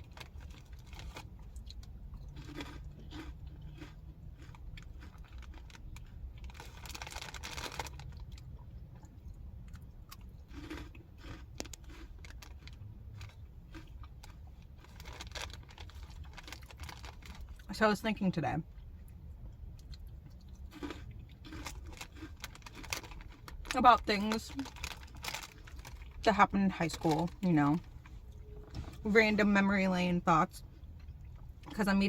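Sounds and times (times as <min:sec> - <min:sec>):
chewing crunchy snacks: 0:00.0 - 0:17.7, 0:19.6 - 0:28.2.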